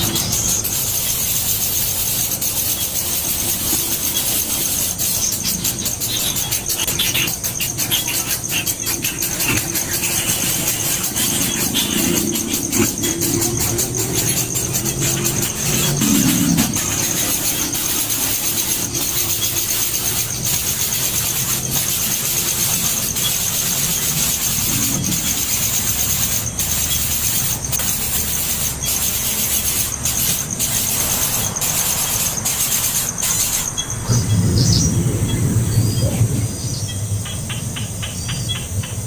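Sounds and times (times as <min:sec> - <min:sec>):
baby birds squealing: 0:00.0 - 0:36.9.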